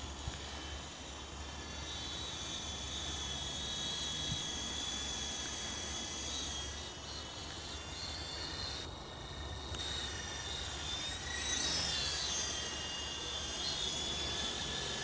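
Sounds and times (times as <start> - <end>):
low hum: 0.0 - 15.0
model helicopter rotor whine: 0.0 - 15.0.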